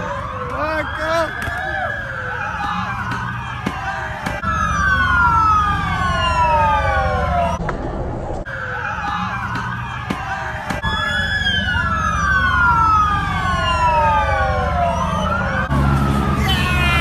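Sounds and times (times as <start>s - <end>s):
police sirens wailing: 0.0s - 7.6s, 8.4s - 17.0s.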